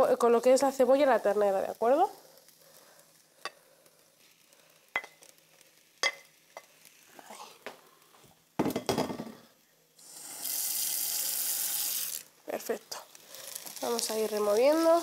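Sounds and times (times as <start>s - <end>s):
meat and onions frying in pan: 0.0s - 7.8s, 10.0s - 15.0s.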